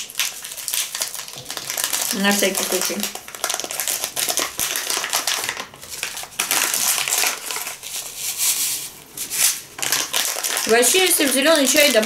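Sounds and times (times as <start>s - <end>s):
foil packet crinkling: 0.0s - 12.0s
dried herbs pouring into bowl: 0.3s - 12.0s.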